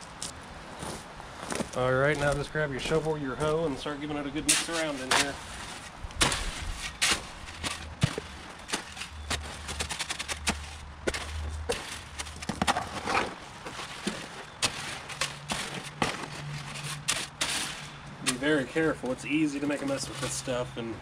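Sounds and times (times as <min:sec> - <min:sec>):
shovel scraping wet concrete: 0:02.8 - 0:20.8.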